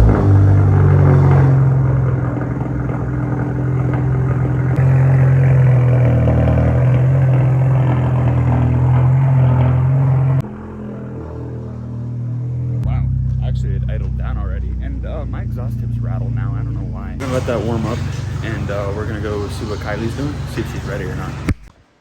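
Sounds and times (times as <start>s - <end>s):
car engine idling: 0.0s - 21.7s.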